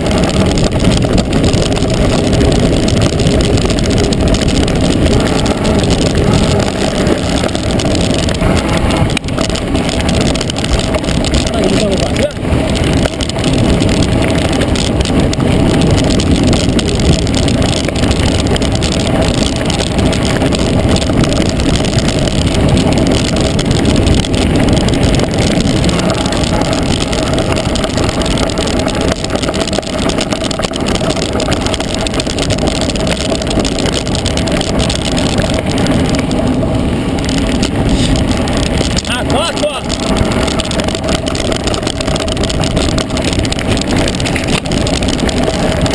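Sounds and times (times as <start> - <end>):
bike rattling: 0.0 - 45.9
bike tyres rumbling on gravel: 0.0 - 45.9
wind on microphone: 0.0 - 45.9.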